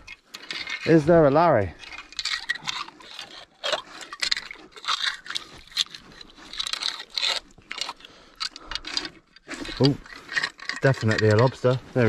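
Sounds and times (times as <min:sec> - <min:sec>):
crunching on wet gravel: 0:00.0 - 0:12.0.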